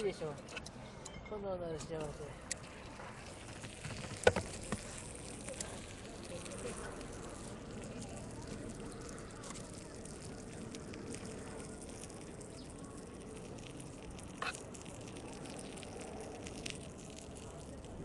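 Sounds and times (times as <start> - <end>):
fire popping: 1.9 - 18.0
wood fire crackling: 1.9 - 18.0.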